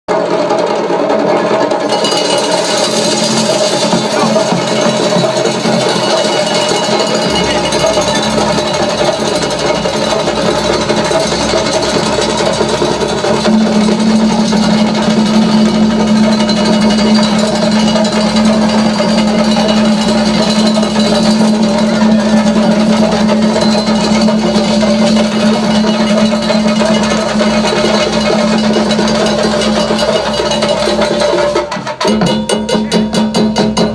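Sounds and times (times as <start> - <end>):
percussion ensemble drumming: 0.1 - 33.9.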